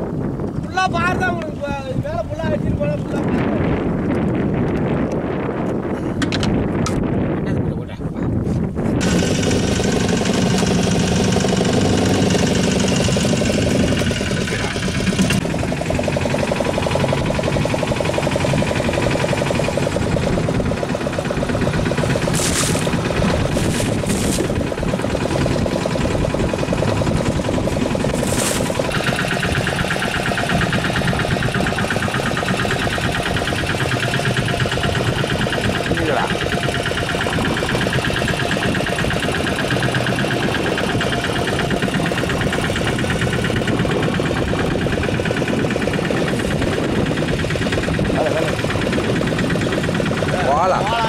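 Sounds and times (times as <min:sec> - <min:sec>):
boat engine knocking: 0:00.0 - 0:07.3, 0:09.0 - 0:51.0.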